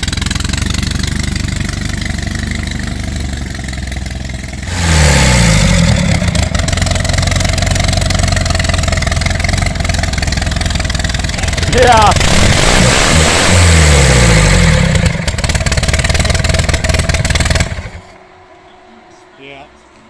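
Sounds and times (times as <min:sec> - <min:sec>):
dragster engine idling and revving: 0:00.0 - 0:18.2.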